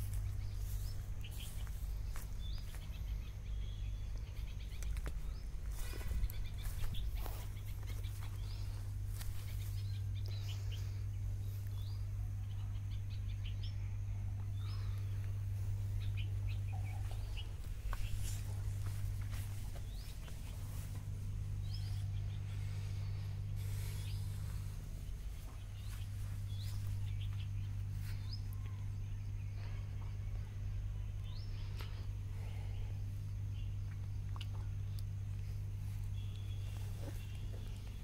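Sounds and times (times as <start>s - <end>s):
low hum: 0.0s - 38.0s
small birds chirping: 0.0s - 38.0s.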